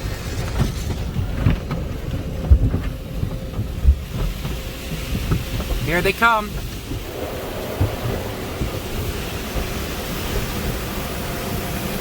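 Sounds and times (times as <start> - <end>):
car wash machinery rumble: 0.0 - 12.0
dull thumps: 0.6 - 11.7.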